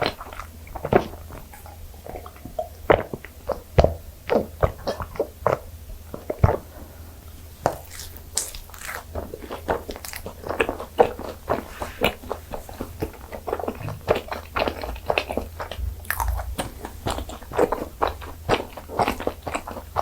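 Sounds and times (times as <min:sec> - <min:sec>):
biting and chewing rice cakes: 0:00.0 - 0:20.0.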